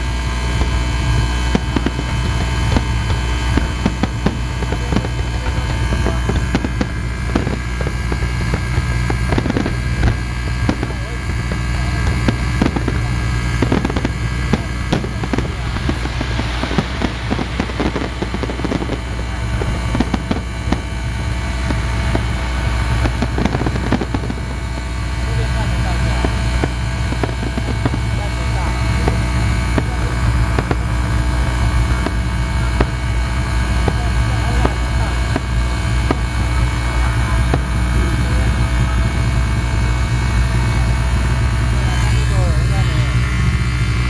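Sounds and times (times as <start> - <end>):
fireworks popping and crackling: 0.0 - 44.0
low rumble: 0.0 - 44.0.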